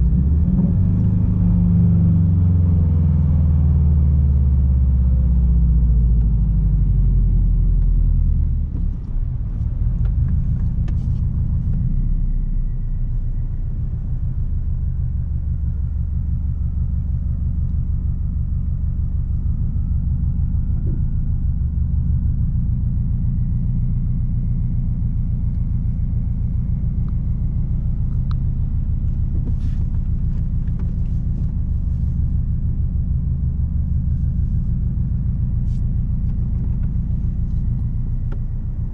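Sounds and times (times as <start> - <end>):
car exhaust rumbling: 0.0 - 38.9.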